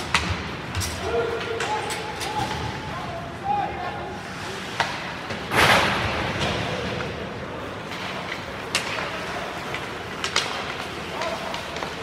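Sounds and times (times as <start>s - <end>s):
hockey sticks and puck clacking: 0.0s - 3.0s, 4.3s - 12.0s
arena noise: 0.0s - 12.0s.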